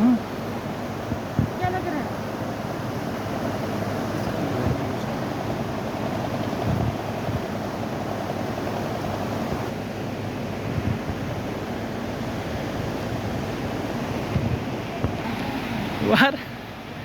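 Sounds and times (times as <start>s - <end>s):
wind on microphone: 0.0s - 9.8s, 10.6s - 16.2s
river roaring: 0.0s - 17.0s.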